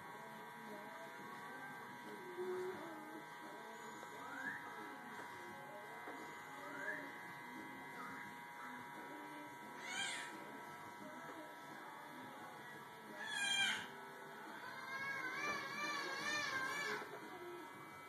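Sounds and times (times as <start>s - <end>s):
electric hair clippers buzzing: 0.0s - 18.0s.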